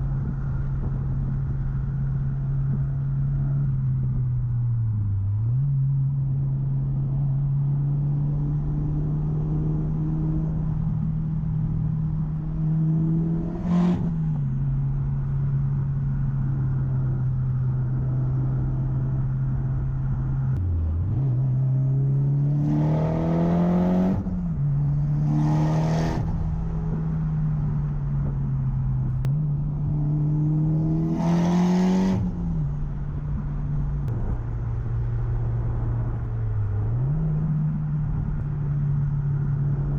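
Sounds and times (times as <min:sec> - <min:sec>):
car engine revving: 0:05.4 - 0:39.9.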